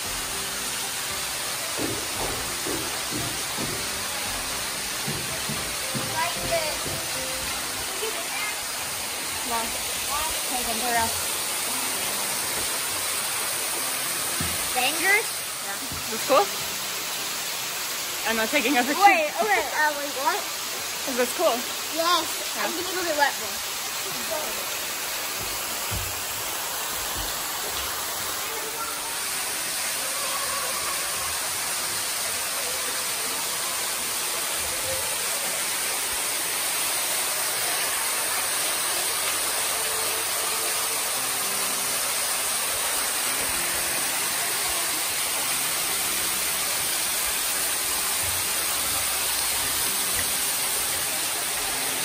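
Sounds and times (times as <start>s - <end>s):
falling water rushing: 0.0s - 52.0s.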